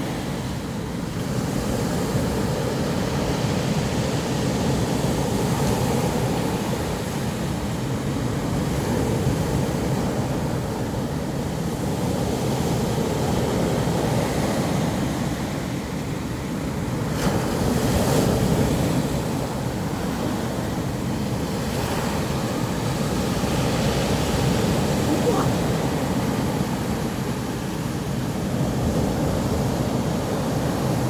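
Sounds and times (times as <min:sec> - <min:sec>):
waves on a pebble beach: 0:00.0 - 0:31.0.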